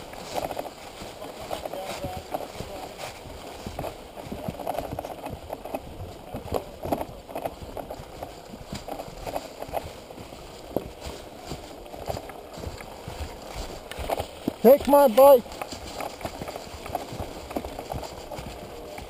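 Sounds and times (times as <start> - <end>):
boots crunching through dry leaves: 0.0 - 19.0
leaves crackling under tyres: 0.0 - 19.0.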